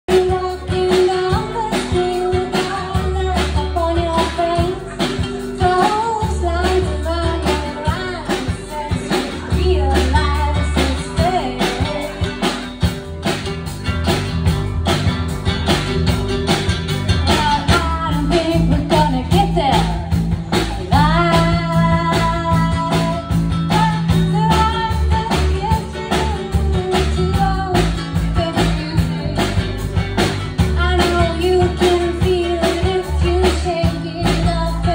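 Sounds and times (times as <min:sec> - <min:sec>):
woman singing: 0:00.1 - 0:12.9, 0:17.2 - 0:34.9
electric bass: 0:00.1 - 0:34.9
strummed acoustic guitar: 0:00.1 - 0:34.9.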